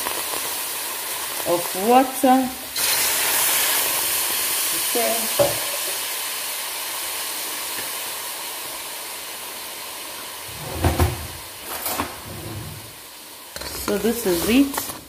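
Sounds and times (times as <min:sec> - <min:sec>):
paste sizzling in hot pot: 0:00.0 - 0:10.6, 0:11.3 - 0:15.0.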